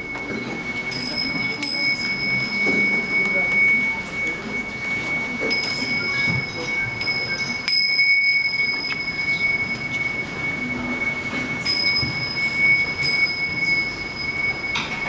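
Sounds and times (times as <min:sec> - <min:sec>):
hand cymbals ringing: 0:00.0 - 0:15.0.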